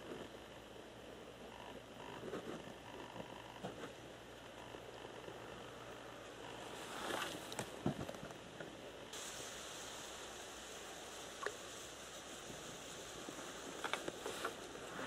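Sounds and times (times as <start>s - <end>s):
soft steady hiss: 0.0s - 15.0s.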